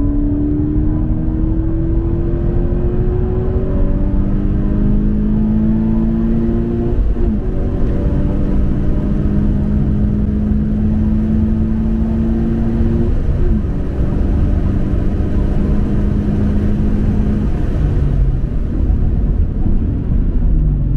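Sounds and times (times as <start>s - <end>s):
car engine accelerating: 0.0s - 20.9s.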